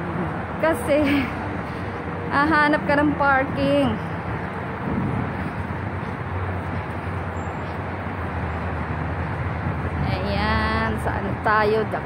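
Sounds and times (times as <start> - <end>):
city street traffic hum: 0.0 - 12.0.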